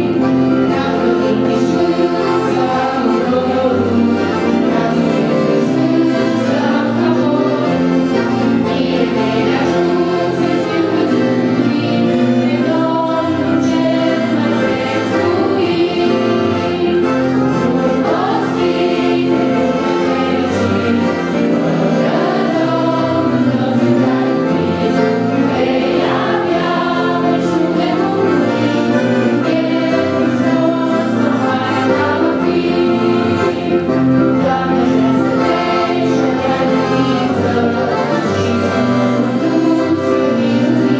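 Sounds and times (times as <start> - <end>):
children and women singing: 0.0 - 7.8, 8.7 - 40.9
electric keyboard: 0.0 - 40.9.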